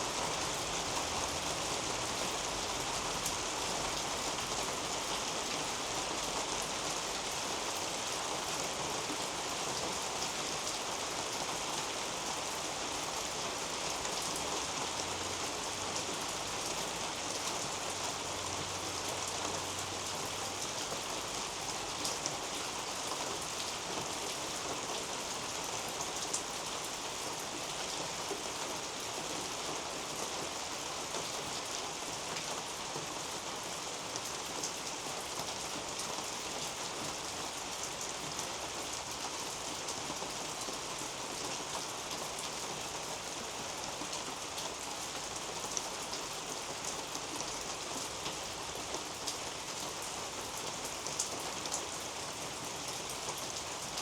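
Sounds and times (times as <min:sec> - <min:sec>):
rain pattering on foliage: 0:00.0 - 0:54.0.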